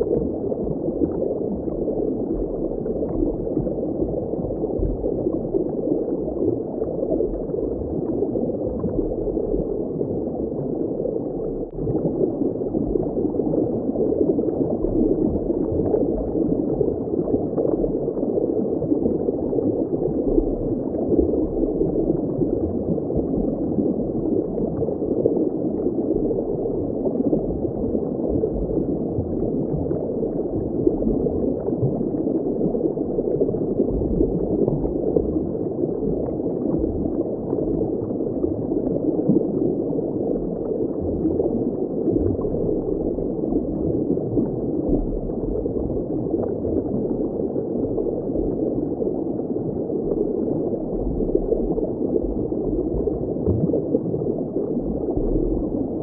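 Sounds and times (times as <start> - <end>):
muffled underwater bubbling: 0.0 - 56.0.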